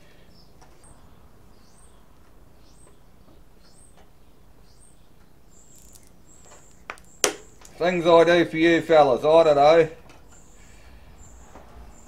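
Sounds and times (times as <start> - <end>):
faint bird chirp: 0.0 - 8.0, 10.2 - 12.0.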